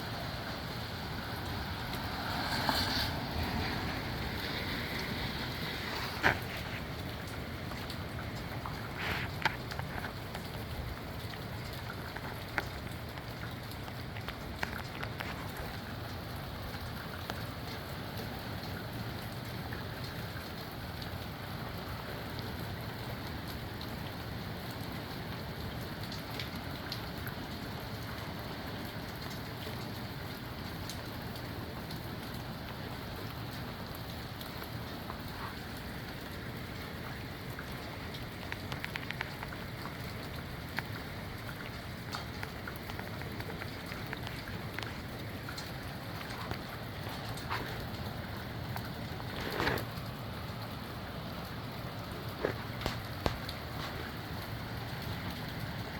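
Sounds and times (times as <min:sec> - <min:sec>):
rain pattering on surfaces: 0:00.0 - 0:55.9.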